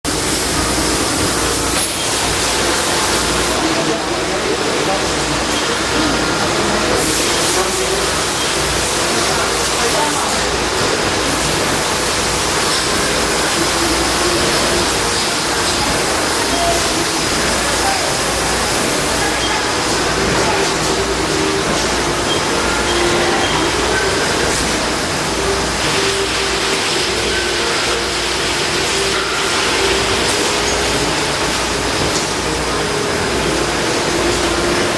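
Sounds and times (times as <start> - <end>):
bottle rinser machine spraying water: 0.0 - 34.9.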